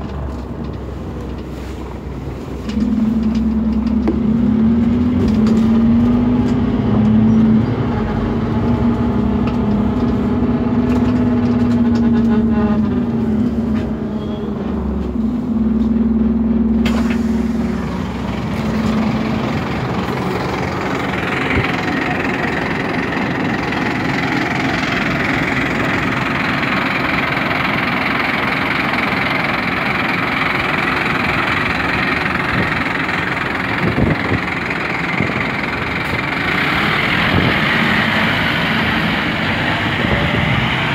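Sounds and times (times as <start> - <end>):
bus diesel engine humming: 0.0 - 40.9.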